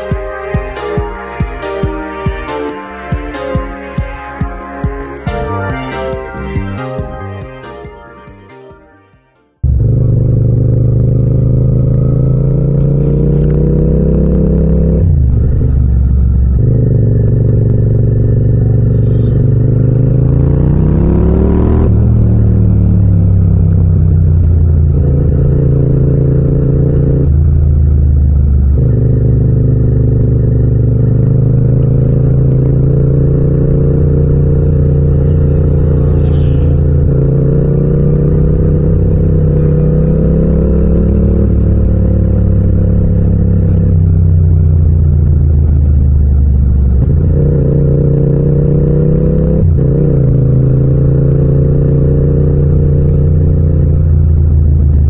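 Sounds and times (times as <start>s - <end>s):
motorcycle engine revving: 9.6s - 55.0s.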